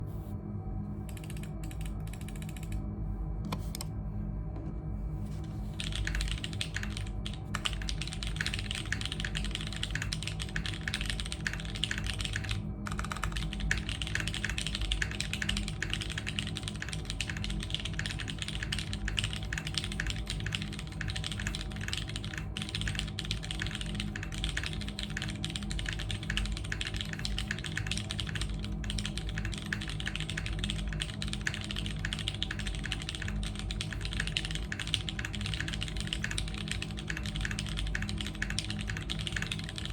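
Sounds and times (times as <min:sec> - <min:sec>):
steady low hum: 0:00.0 - 0:39.9
fast typing on mechanical keyboard: 0:01.1 - 0:02.8, 0:05.7 - 0:39.9.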